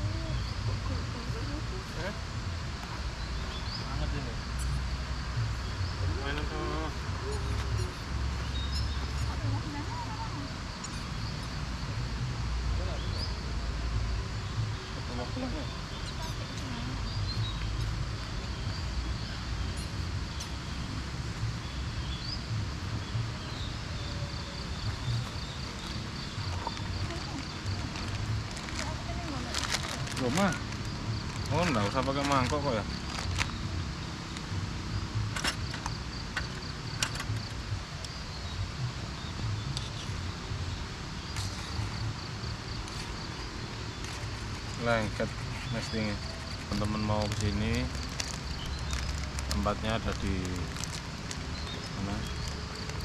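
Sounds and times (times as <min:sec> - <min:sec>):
high bird or insect chirps: 0:00.1 - 0:53.0.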